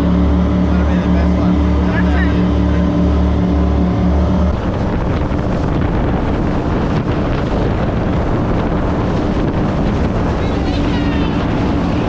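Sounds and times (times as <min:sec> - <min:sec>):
boat engines droning: 0:00.0 - 0:12.0
water rushing past: 0:00.0 - 0:12.0
wind buffeting microphone: 0:00.0 - 0:12.0.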